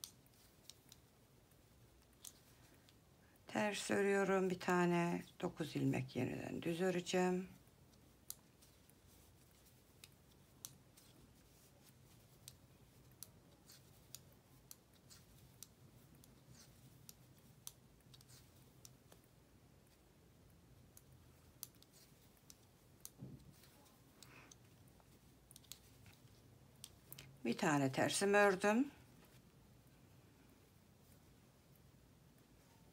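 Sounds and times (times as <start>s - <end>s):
knitting needles clicking: 0.0s - 28.6s.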